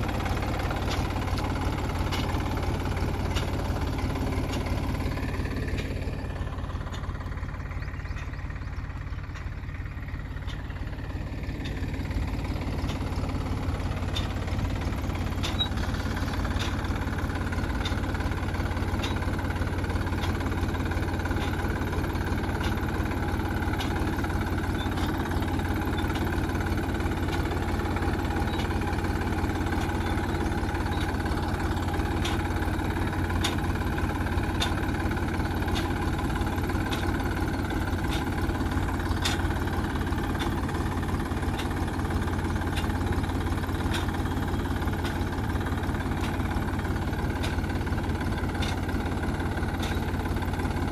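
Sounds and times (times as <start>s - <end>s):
tractor engine droning: 0.0s - 50.9s.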